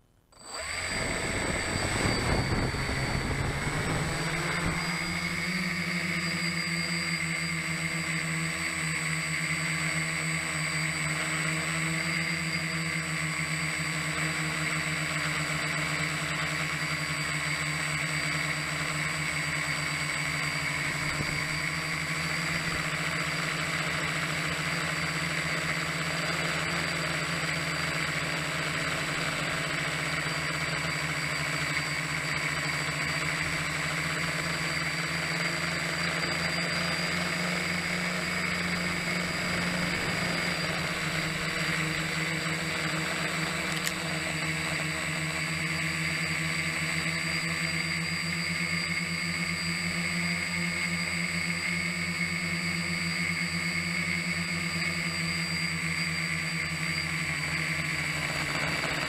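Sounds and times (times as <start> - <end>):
drone propellers whining: 0.3 - 59.0.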